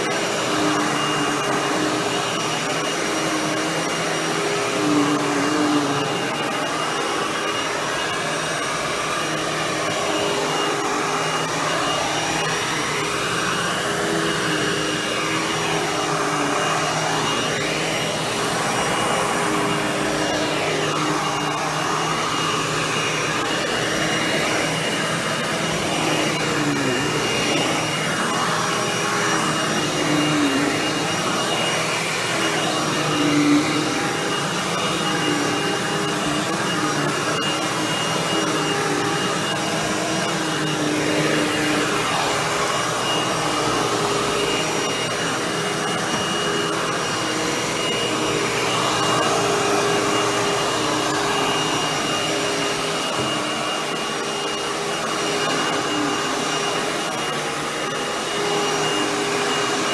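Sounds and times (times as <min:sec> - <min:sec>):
upright vacuum running: 0:00.0 - 0:59.9.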